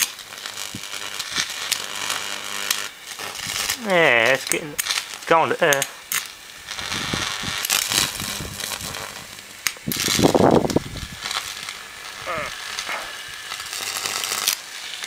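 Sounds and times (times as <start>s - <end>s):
electric arc crackling: 0.0s - 15.0s.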